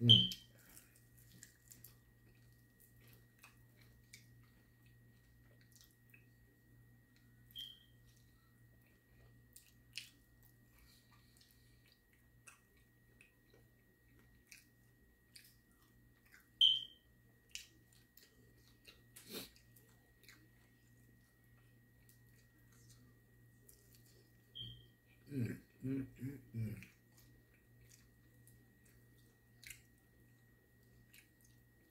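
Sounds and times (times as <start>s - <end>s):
person chewing: 0.0s - 6.4s, 8.0s - 16.6s, 17.4s - 24.4s, 25.1s - 31.9s
faint steady hum: 0.0s - 31.9s.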